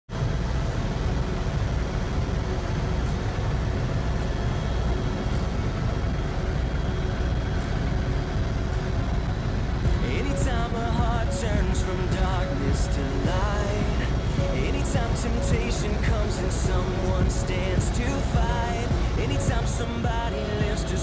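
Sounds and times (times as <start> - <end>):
faint high whine: 0.1 - 21.0
helicopter engine and rotor rumble: 0.1 - 21.0.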